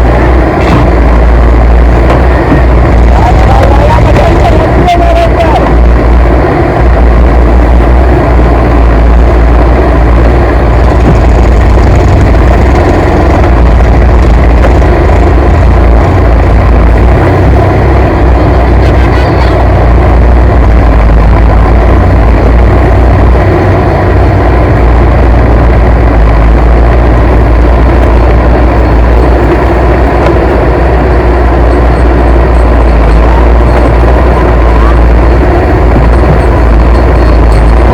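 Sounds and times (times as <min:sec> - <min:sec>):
diesel engine rumbling: 0:00.0 - 0:37.9.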